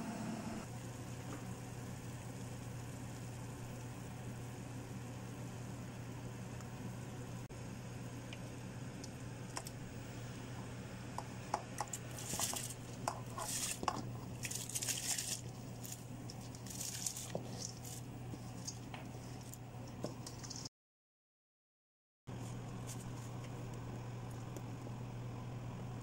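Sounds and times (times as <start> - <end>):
steady low hum: 0.0 - 20.7, 22.3 - 26.0.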